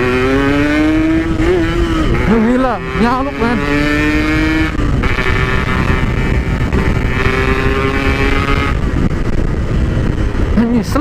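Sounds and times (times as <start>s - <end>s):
two-stroke motorcycle engine revving: 0.0s - 11.0s
wind on microphone: 0.0s - 11.0s.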